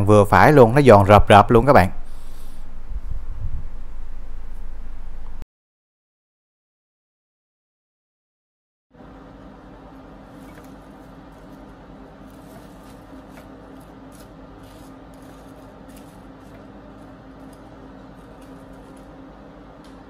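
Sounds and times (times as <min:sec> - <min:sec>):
steady low hum: 0:00.0 - 0:05.4, 0:09.0 - 0:20.0.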